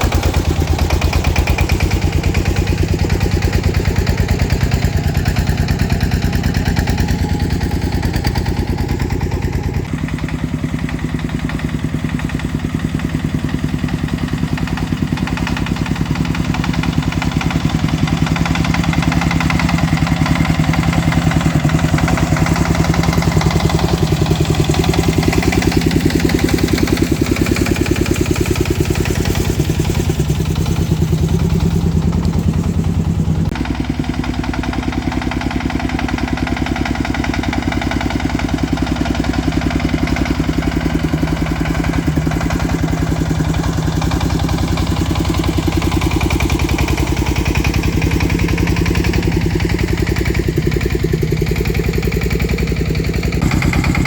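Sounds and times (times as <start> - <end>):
truck engine pulsing: 0.0 - 54.0.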